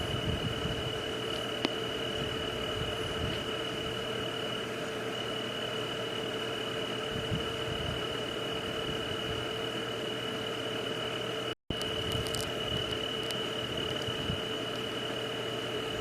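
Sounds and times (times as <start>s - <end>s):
continuous high tone: 0.0s - 16.0s
low hum: 0.0s - 16.0s.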